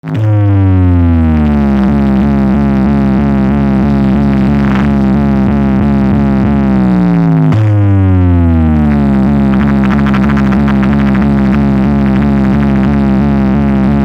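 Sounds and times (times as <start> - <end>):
pulsing buzzy synth tone: 0.0 - 14.0.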